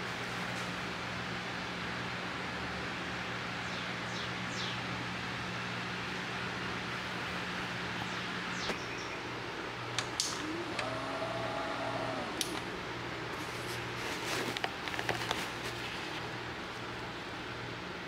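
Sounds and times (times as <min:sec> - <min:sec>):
fan-like hiss: 0:00.0 - 0:18.0.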